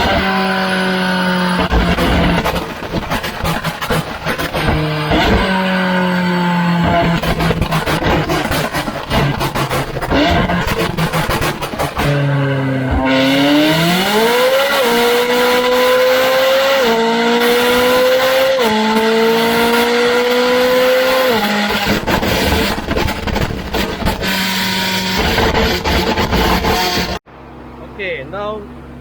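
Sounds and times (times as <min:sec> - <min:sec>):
car engine revving at full throttle: 0:00.0 - 0:29.0.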